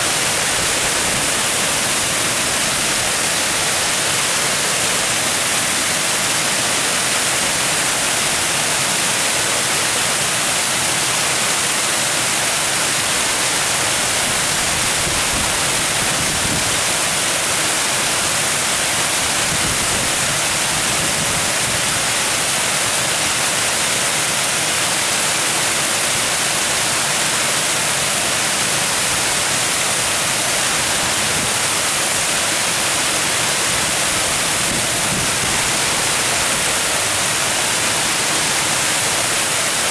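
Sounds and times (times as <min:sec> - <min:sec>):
water rushing down cascade: 0:00.0 - 0:39.9.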